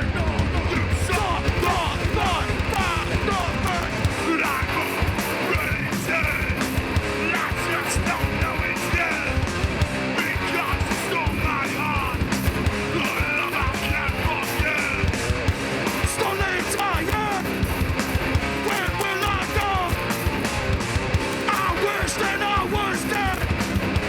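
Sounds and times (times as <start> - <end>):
distorted electric guitars: 0.0 - 24.0
fast dense drumming: 0.0 - 24.0.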